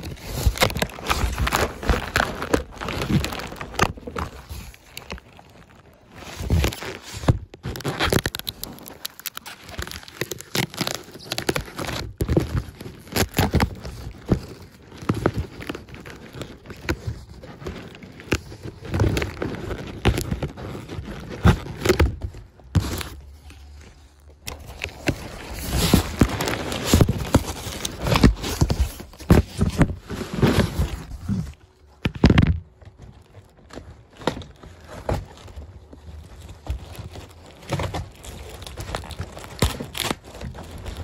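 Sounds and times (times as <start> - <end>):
packaging rustling and crinkling: 0.0 - 41.0.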